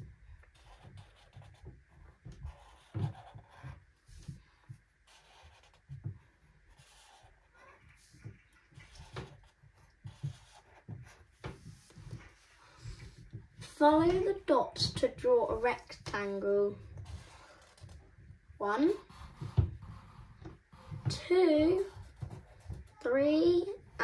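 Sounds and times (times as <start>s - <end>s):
marker scratching on paper: 0.4s - 14.2s, 15.5s - 18.0s, 18.6s - 23.1s.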